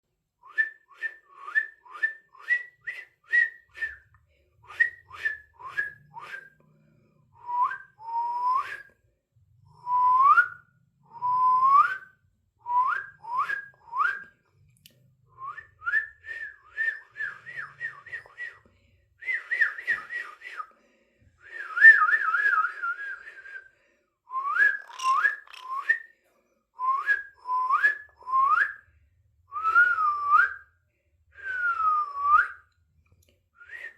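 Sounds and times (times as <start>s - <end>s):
person whistling: 0.4s - 6.6s, 7.4s - 9.0s, 9.7s - 14.3s, 15.4s - 20.7s, 21.4s - 23.7s, 24.3s - 26.1s, 26.8s - 28.8s, 29.5s - 32.7s, 33.6s - 33.9s.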